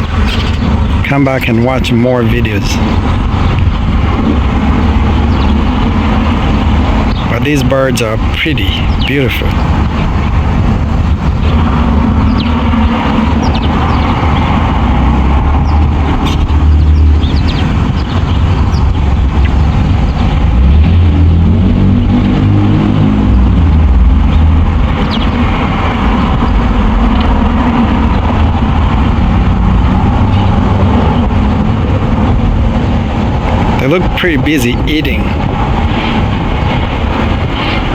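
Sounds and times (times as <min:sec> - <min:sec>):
motor vehicle engine rumble: 0:00.0 - 0:37.9.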